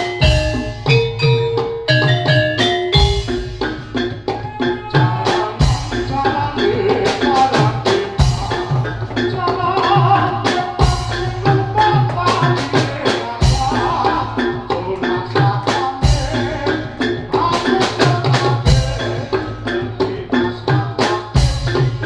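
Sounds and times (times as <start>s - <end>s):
drum beats: 0.0s - 22.0s
metallophones ringing: 0.0s - 22.0s.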